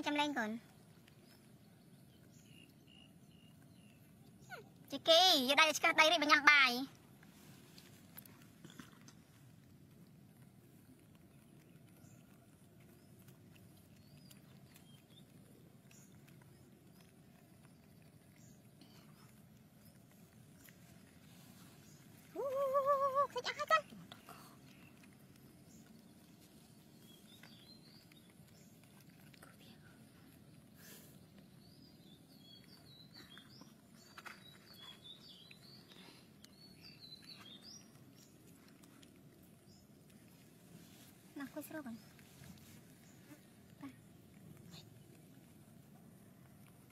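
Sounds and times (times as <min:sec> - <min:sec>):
low steady background noise: 0:00.0 - 0:46.9
low steady hum: 0:00.0 - 0:46.9.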